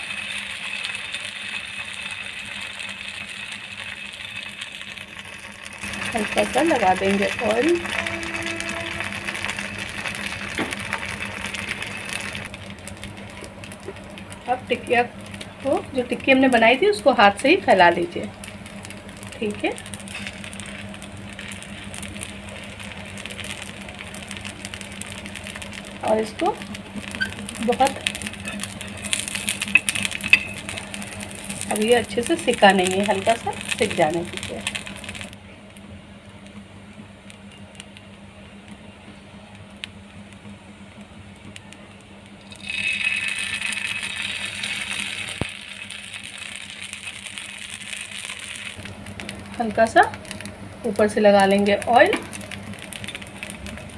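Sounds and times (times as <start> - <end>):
batter sizzling on hot pan: 0.0 - 53.9
low hum: 0.0 - 53.9.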